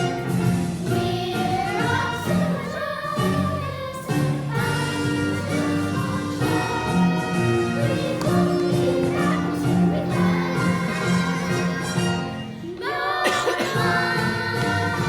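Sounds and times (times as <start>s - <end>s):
orchestral accompaniment: 0.0s - 12.9s, 13.7s - 15.0s
youth chorus singing: 0.0s - 15.0s.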